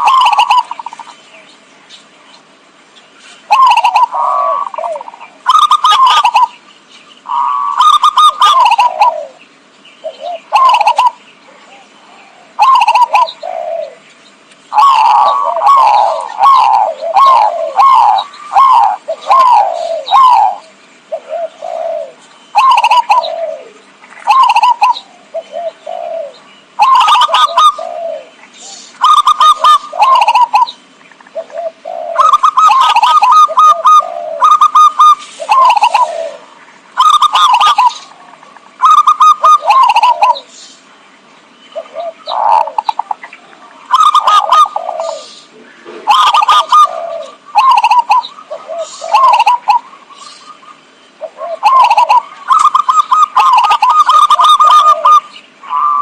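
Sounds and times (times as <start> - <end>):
doves cooing: 0.0 - 1.6, 2.5 - 56.0.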